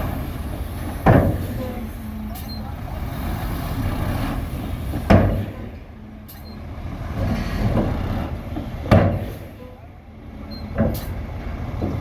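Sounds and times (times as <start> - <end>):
diesel machinery running: 0.0 - 12.0.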